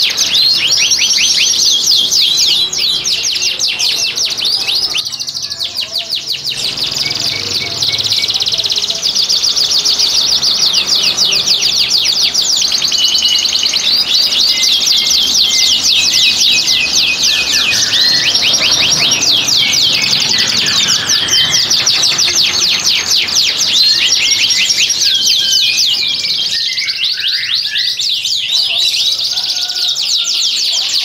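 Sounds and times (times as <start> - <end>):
canary singing trills: 0.0 - 31.0.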